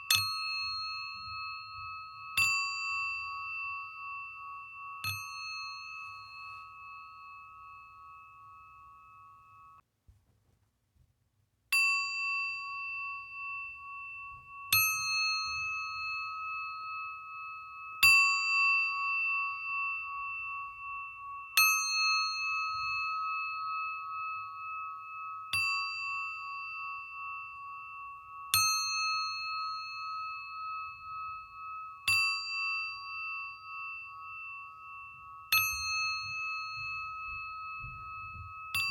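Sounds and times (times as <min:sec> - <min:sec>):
singing bowl ringing: 0:00.0 - 0:09.8, 0:11.8 - 0:38.9.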